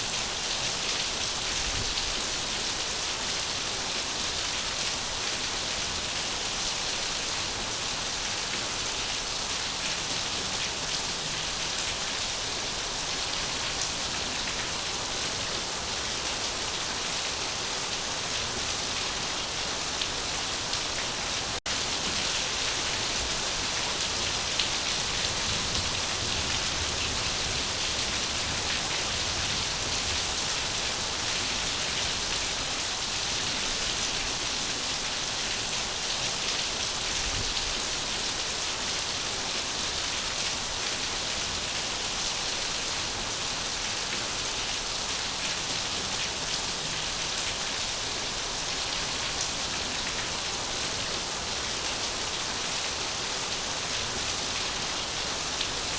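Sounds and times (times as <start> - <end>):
steady rain on a surface: 0.0 - 55.9.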